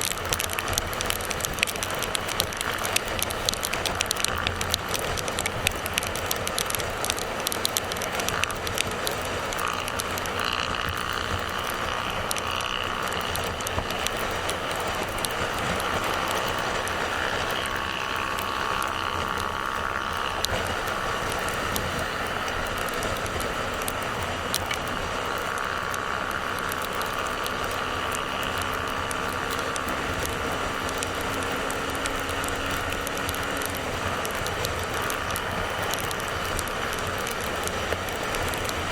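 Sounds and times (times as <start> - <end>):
motorcycle engine: 0.0 - 38.9
sharp ticks and clicks: 0.0 - 38.9
wind noise: 0.0 - 38.9.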